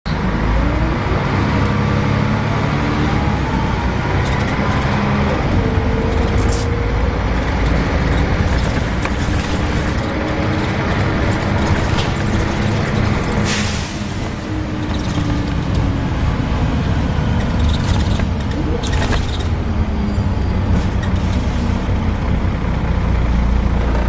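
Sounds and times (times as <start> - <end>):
bus diesel engine pulling: 0.1 - 24.0
gearbox whine climbing: 1.4 - 21.5.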